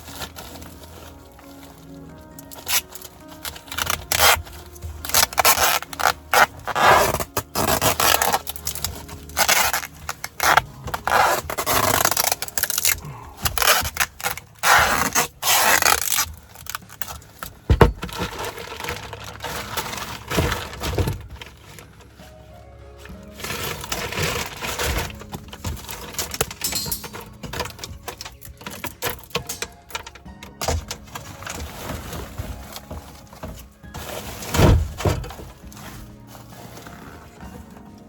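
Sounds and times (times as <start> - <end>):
scraping and rubbing: 0.0 - 22.5, 23.2 - 29.7, 30.6 - 38.0.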